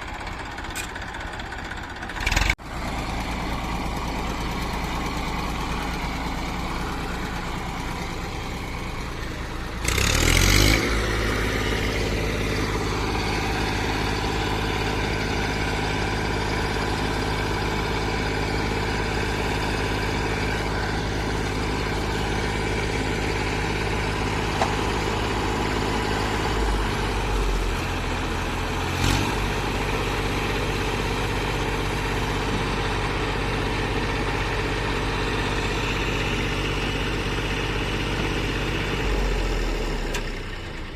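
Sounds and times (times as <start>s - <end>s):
diesel machinery engine running: 0.0s - 40.9s.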